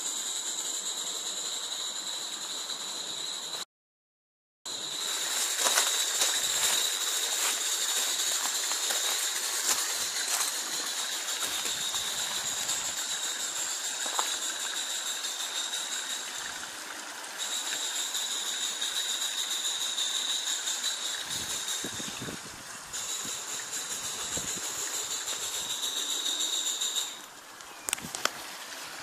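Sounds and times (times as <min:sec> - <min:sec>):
steam hissing with whistling tone: 0:00.0 - 0:03.6, 0:04.7 - 0:27.3.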